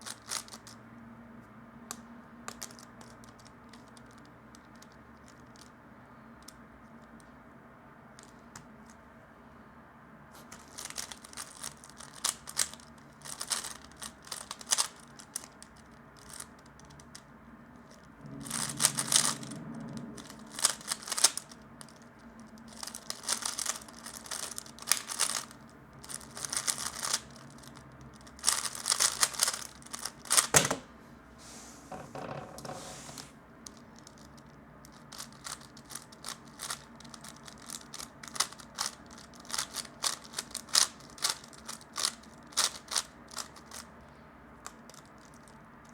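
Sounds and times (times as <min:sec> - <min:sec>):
rapid plastic clicking of speed cube: 0:00.0 - 0:00.8, 0:01.9 - 0:05.8, 0:06.4 - 0:07.4, 0:08.1 - 0:09.0, 0:10.4 - 0:19.4, 0:20.2 - 0:30.8, 0:33.6 - 0:43.9, 0:44.6 - 0:45.9.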